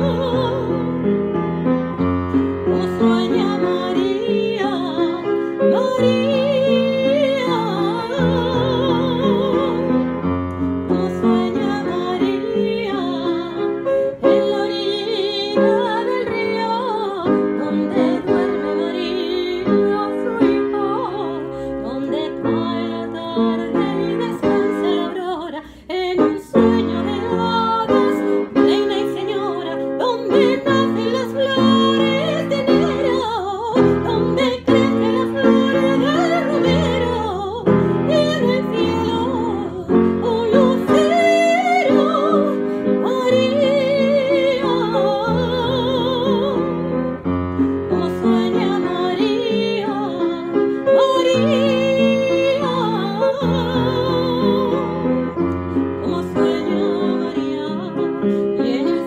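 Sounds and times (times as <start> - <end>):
piano playing chords: 0.0 - 59.0.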